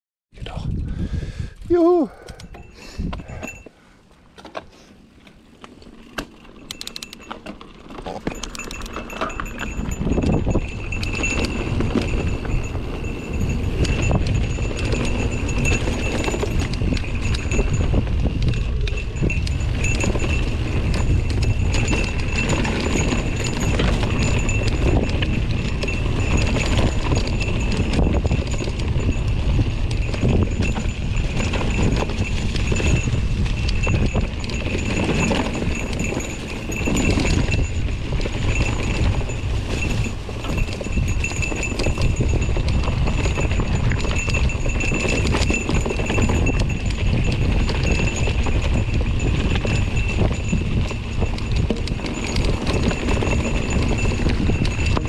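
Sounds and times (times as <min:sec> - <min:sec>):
wind rushing on microphone: 0:00.4 - 0:03.7, 0:08.7 - 0:55.0
bike rattling over bumps: 0:01.8 - 0:55.0
bike tyres rolling over dirt: 0:04.3 - 0:55.0.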